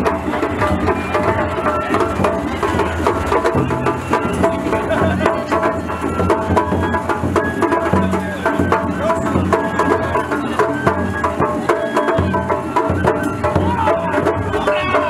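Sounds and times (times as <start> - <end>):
drums and clacking percussion: 0.0 - 15.0
high flute-like melody: 0.0 - 15.0.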